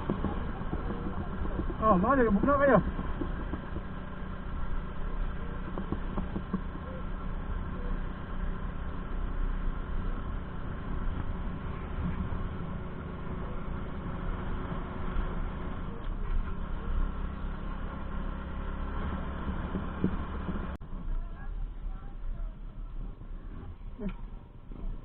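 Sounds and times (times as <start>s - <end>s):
engine droning steadily: 0.0s - 25.0s.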